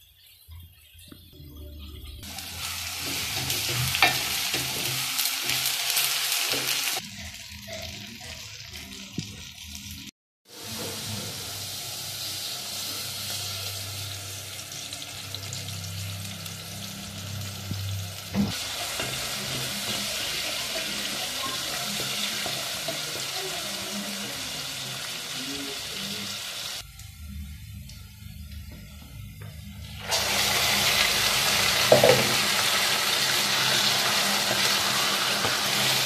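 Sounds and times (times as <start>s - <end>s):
onions sizzling in oil: 2.2s - 36.0s.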